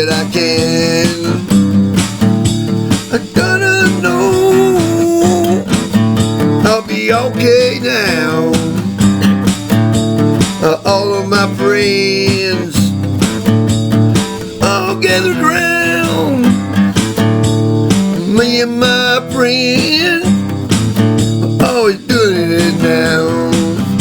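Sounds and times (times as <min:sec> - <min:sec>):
guitar-led instrumental music: 0:00.0 - 0:24.0.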